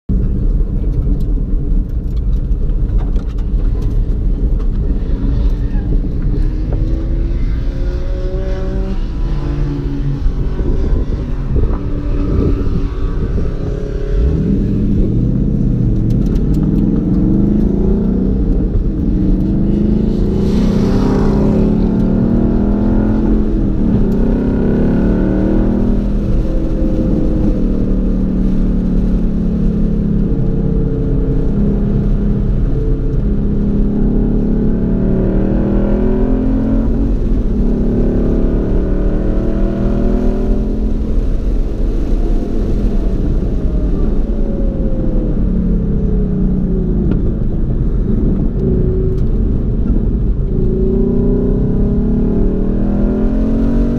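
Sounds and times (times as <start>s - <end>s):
car engine accelerating: 0.1s - 53.9s.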